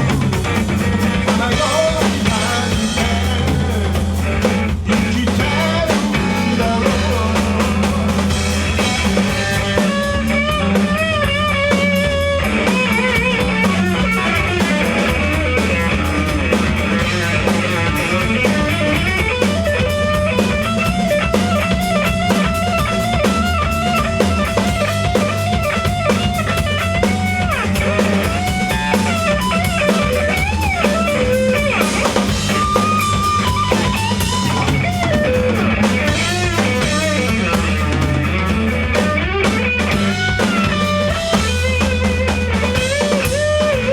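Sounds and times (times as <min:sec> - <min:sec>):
drum kit: 0:00.0 - 0:43.9
lead guitar with bending notes: 0:00.0 - 0:43.9
steady low bass: 0:00.0 - 0:43.9.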